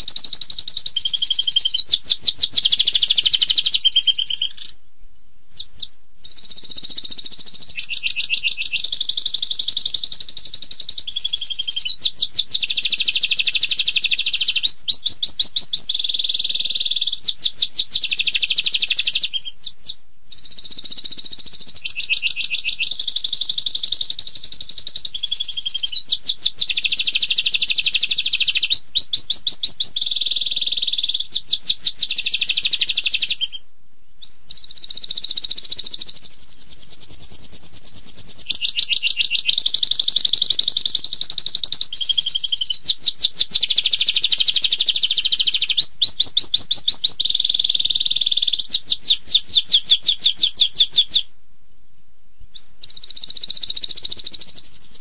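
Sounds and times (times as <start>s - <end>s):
canary singing trills: 0.0s - 51.3s, 52.3s - 55.0s.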